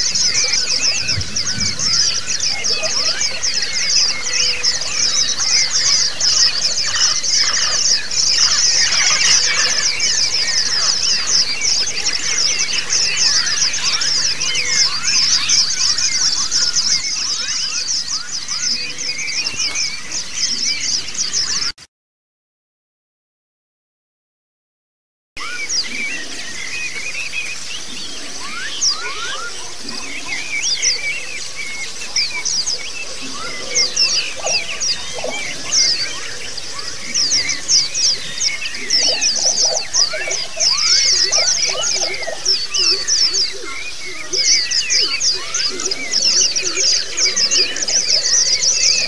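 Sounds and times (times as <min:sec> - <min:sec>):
birds chirping and trilling: 0:00.0 - 0:21.8, 0:25.4 - 0:49.0.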